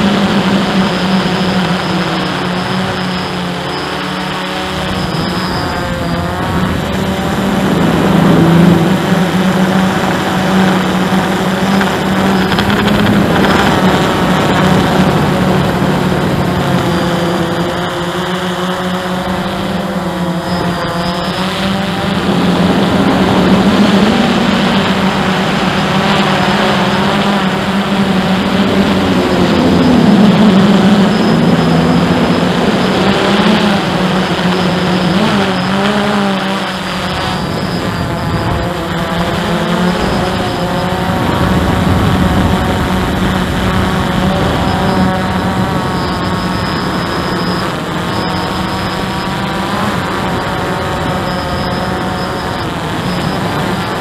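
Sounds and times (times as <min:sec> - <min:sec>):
quadcopter propellers buzzing: 0:00.0 - 0:54.0.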